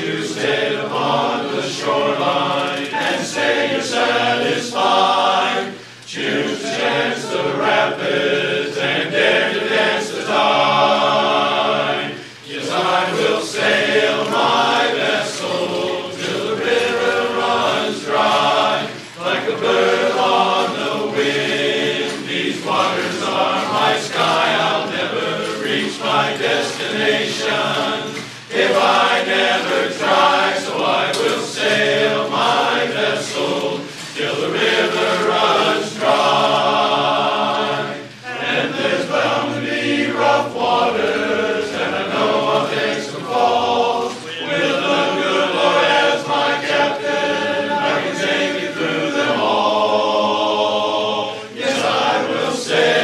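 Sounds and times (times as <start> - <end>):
men's chorus singing in harmony: 0.0 - 53.0.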